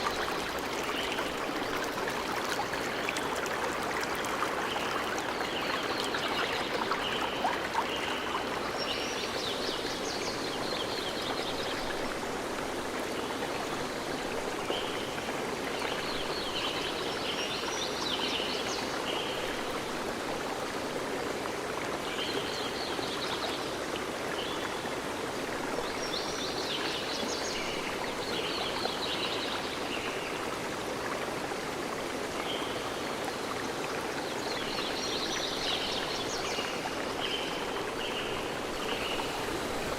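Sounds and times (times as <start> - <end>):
stream of water running: 0.0 - 39.9.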